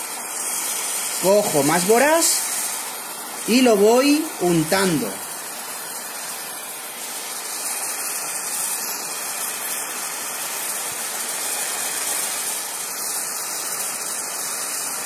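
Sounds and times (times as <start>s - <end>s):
brazing torch rushing: 0.0s - 15.0s.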